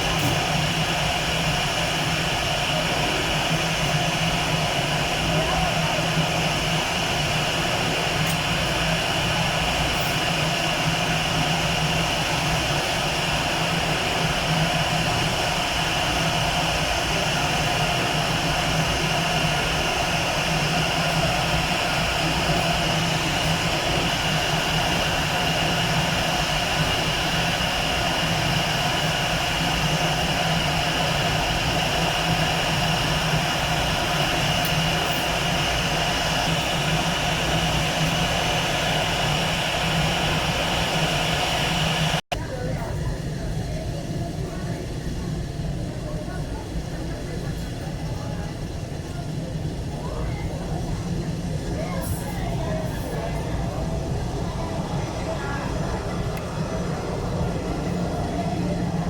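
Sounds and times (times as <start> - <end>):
jet engines humming and whining: 0.0 - 42.4, 43.0 - 59.0.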